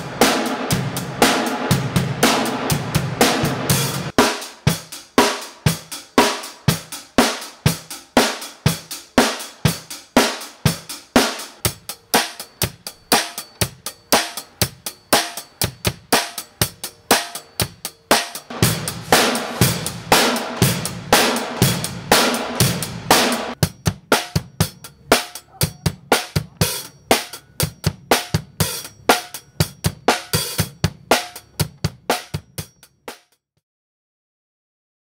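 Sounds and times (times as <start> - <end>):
drum kit playing: 0.0 - 33.4.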